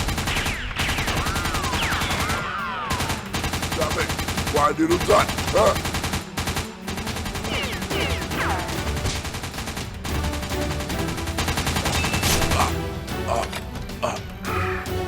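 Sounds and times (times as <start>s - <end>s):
rapid automatic gunfire: 0.0s - 12.6s.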